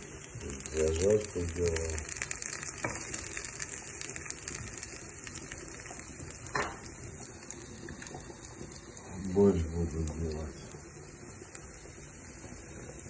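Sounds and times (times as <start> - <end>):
food sizzling on a stove: 0.0 - 13.0.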